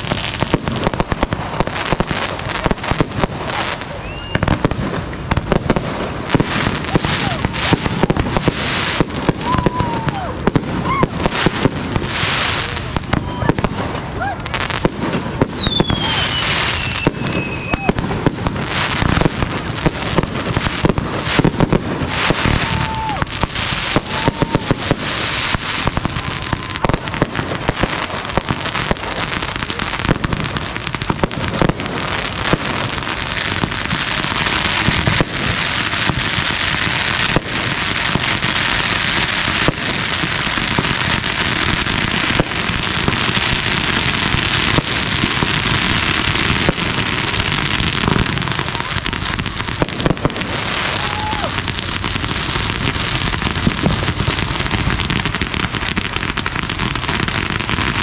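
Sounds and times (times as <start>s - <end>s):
firework crackling and fizzing: 0.0s - 58.0s
firework pops and bangs: 0.0s - 58.0s.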